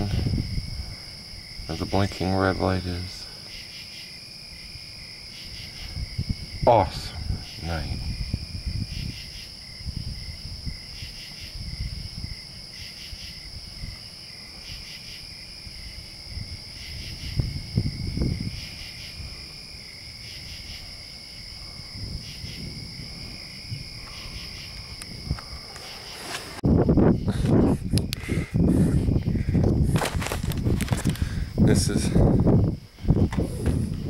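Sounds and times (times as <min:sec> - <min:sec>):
wind buffeting microphone: 0:00.0 - 0:03.4, 0:04.2 - 0:34.0
crickets trilling: 0:00.0 - 0:34.0
pulsed insect calls: 0:00.0 - 0:34.0.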